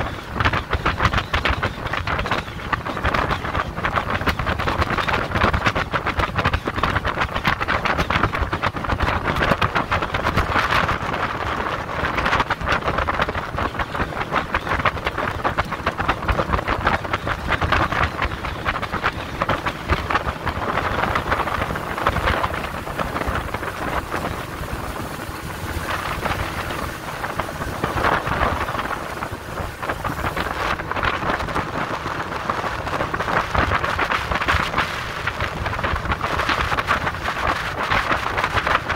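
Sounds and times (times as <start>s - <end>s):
water slapping against hull: 0.0s - 38.9s
wind buffeting microphone: 0.0s - 38.9s.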